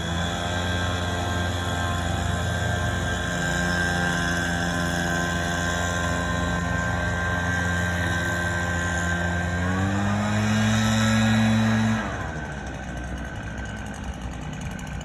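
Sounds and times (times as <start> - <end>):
lawn equipment engine running: 0.0 - 15.0.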